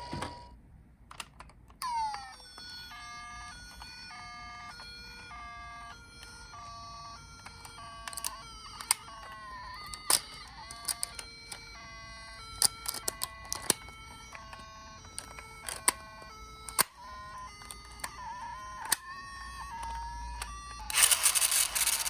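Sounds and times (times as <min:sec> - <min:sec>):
toy beeping tune: 0:00.0 - 0:00.6, 0:01.8 - 0:22.0.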